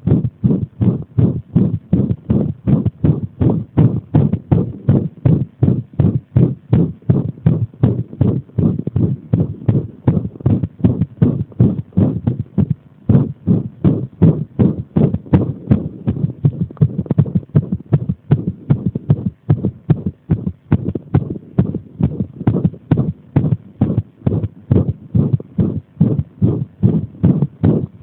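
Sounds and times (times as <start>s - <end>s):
heartbeat thuds: 0.0s - 28.0s.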